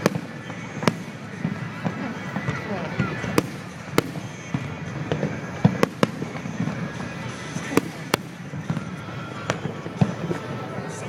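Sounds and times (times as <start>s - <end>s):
sharp firework bangs: 0.0s - 10.3s
rumble and crackle of fireworks: 0.0s - 11.0s.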